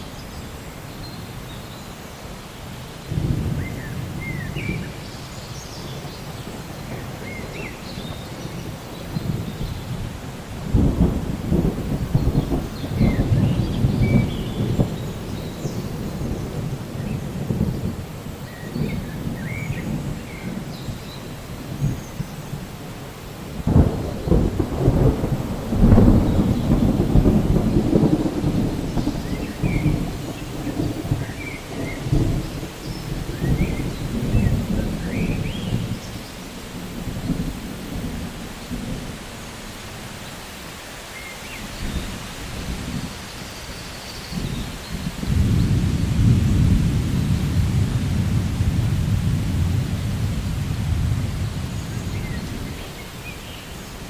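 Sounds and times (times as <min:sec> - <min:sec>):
steady rain: 0:00.0 - 0:54.0
rolling thunder: 0:03.1 - 0:40.0, 0:41.7 - 0:54.0.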